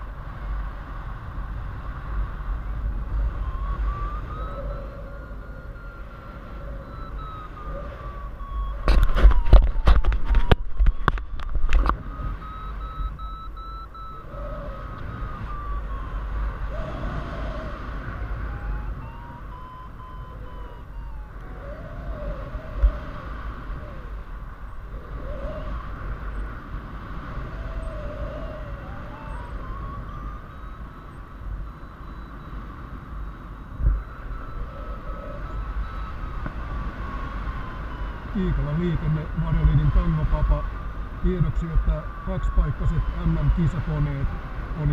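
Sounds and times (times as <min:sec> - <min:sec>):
wind rush on microphone: 0:00.0 - 0:44.9
variometer beeping: 0:01.5 - 0:44.9.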